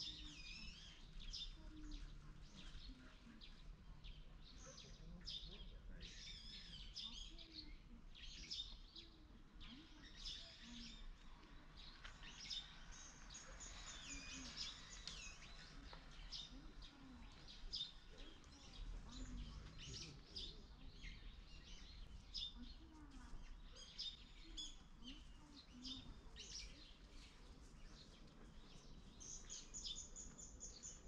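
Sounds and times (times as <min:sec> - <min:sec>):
faint distant voices: 0:00.0 - 0:31.0
small birds chirping: 0:00.0 - 0:31.0.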